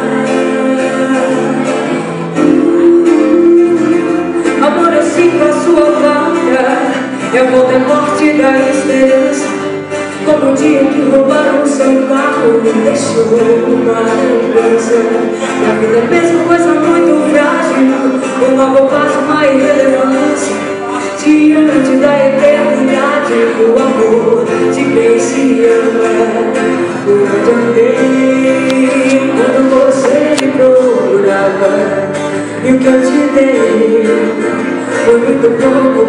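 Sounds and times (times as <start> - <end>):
live band playing guitars: 0.0 - 36.0
woman singing into a microphone: 0.0 - 36.0.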